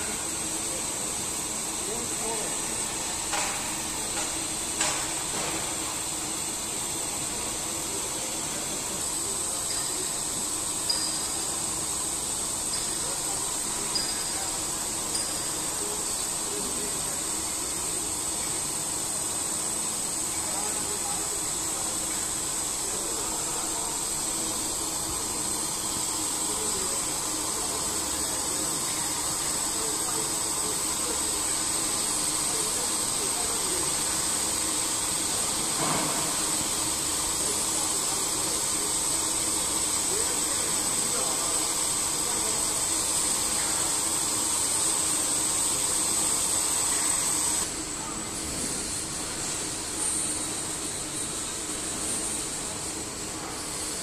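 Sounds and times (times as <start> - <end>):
high-pitched machine whine: 6.7 - 54.0.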